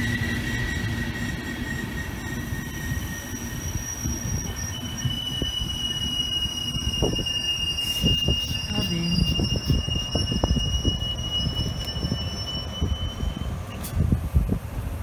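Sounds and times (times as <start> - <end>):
high-pitched wheel squeal: 0.0 - 14.0
train wheels rumbling on track: 0.0 - 15.0.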